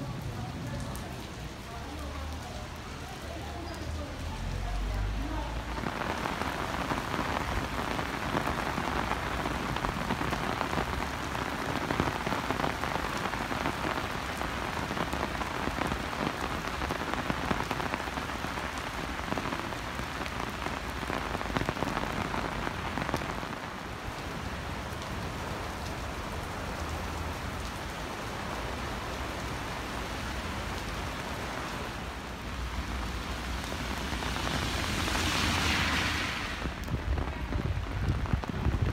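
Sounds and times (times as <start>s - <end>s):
heavy rain splashing on pavement: 0.0s - 38.9s.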